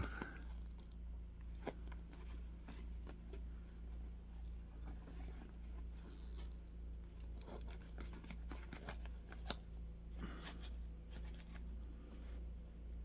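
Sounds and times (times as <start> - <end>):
steady low hum: 0.0 - 13.0
leather gloves rustling: 0.1 - 13.0.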